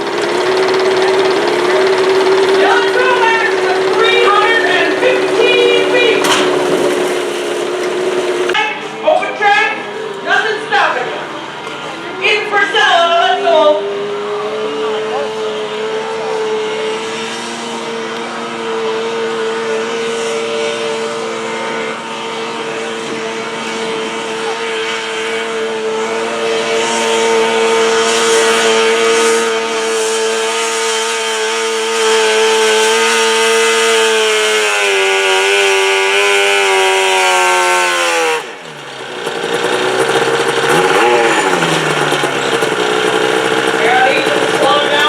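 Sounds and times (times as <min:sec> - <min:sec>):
tractor engine running at high revs: 0:00.0 - 0:45.0.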